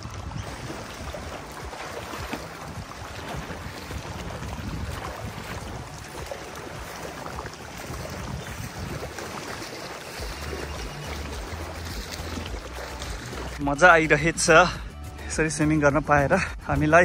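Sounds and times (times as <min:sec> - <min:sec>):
wind gusting on microphone: 0:00.0 - 0:13.7
water lapping and splashing: 0:00.0 - 0:15.6.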